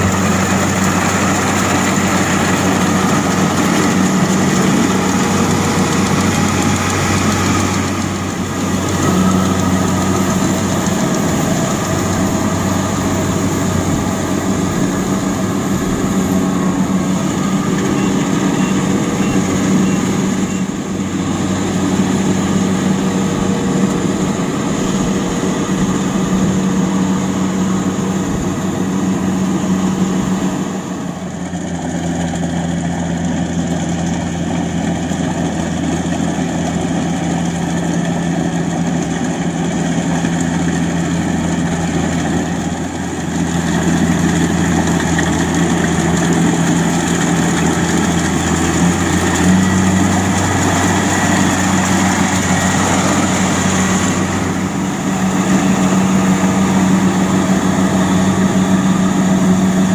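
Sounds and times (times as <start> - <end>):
cutting and threshing machinery: 0.0 - 59.9
diesel engine hum: 0.0 - 59.9.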